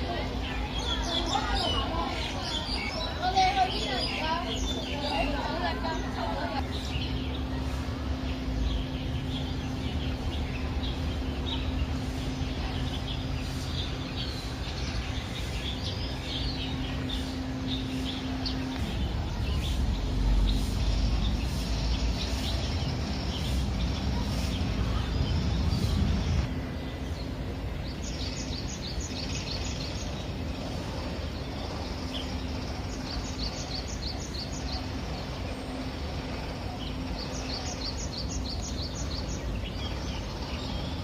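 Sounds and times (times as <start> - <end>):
low outdoor rumble: 0.0 - 41.0
small birds chirping: 0.0 - 41.0
steady low hum: 0.0 - 41.0.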